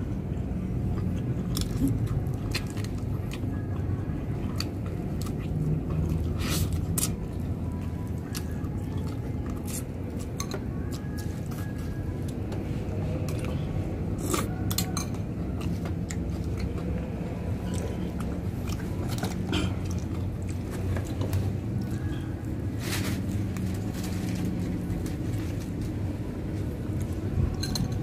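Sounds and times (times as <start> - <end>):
man chewing and smacking lips: 0.0 - 22.6
steady low hum: 0.0 - 28.0.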